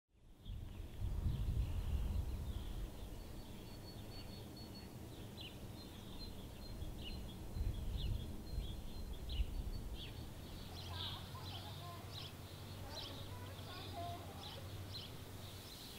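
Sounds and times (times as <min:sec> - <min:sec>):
bird chirping: 0:00.2 - 0:15.9.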